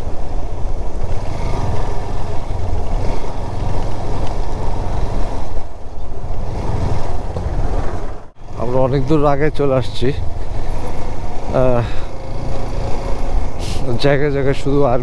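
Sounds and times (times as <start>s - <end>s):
motorcycle engine: 0.0s - 15.0s
road noise: 0.0s - 15.0s.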